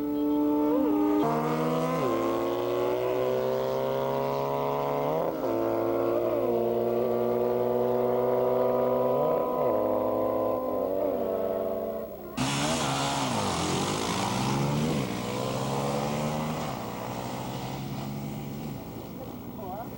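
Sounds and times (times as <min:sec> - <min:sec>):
motorcycle engine revving high: 0:00.0 - 0:19.9.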